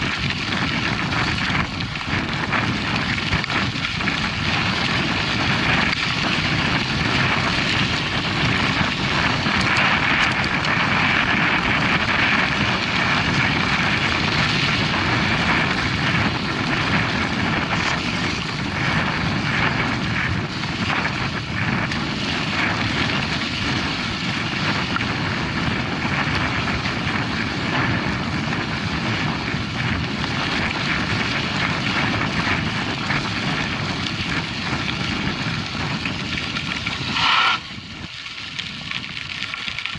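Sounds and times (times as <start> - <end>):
tyres rolling on dirt: 0.0 - 39.9
wind over microphone: 0.0 - 39.9.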